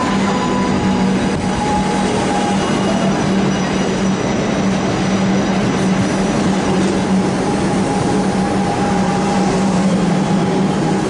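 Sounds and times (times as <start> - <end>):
train electric hum: 0.0 - 11.0.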